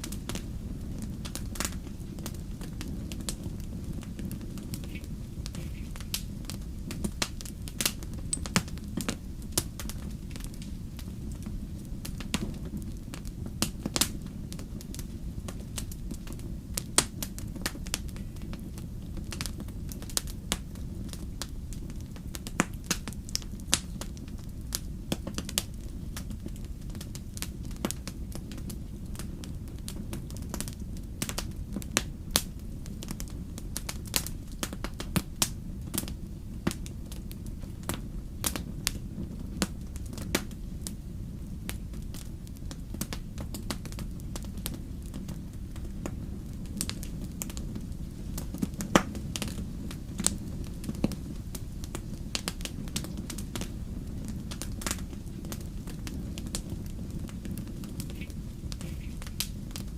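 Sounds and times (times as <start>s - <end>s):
crackles and pops of burning logs: 0.0s - 59.9s
wood fire rumbling: 0.0s - 59.9s.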